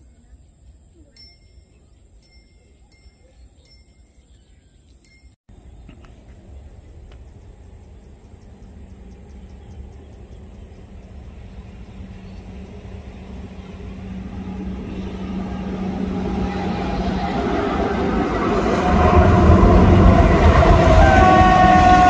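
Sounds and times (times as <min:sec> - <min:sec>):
diesel train approaching: 0:00.5 - 0:22.0.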